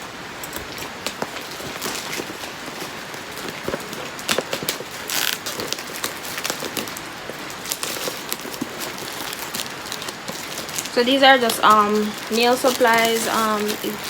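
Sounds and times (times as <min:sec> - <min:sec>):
plastic packaging crinkling: 0:00.4 - 0:14.0.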